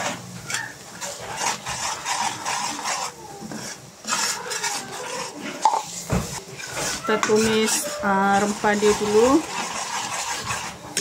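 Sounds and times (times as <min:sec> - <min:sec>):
metal ladle scraping pot: 0:00.0 - 0:11.0.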